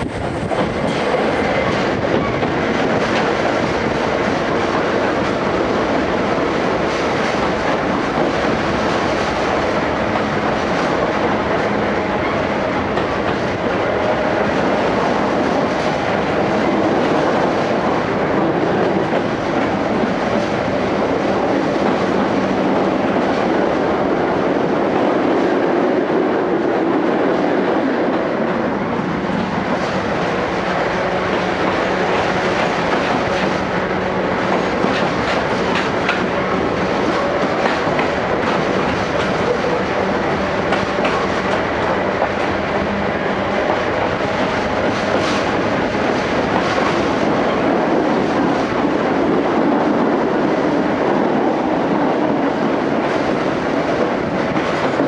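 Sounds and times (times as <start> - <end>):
train wheels running on track: 0.0 - 55.0.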